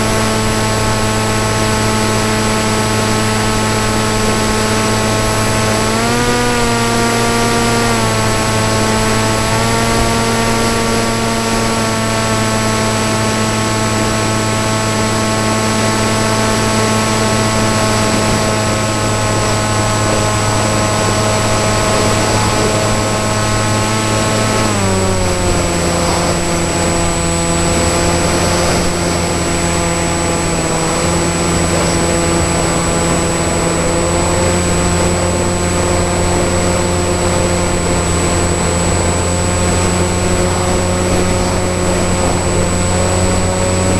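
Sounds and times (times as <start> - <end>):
electric motor and propeller: 0.0 - 43.9
thin high whine: 0.0 - 43.9.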